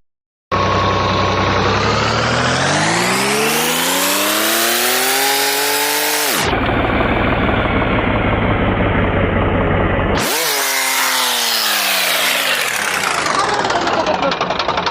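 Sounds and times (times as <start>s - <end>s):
engine slowing down: 0.5s - 14.9s.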